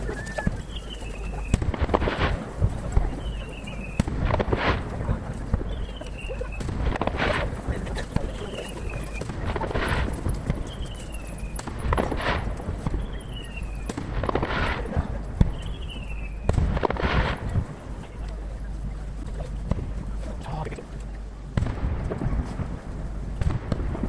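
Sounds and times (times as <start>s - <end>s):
distant fireworks bangs: 0.0s - 20.8s, 21.4s - 24.0s.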